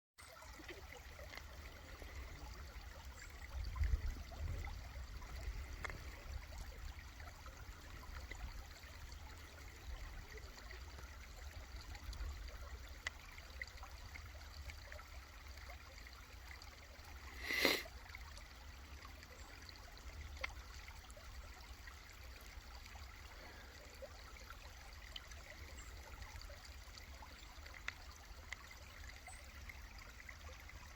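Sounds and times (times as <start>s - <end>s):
stream trickling and gurgling: 0.2s - 30.9s.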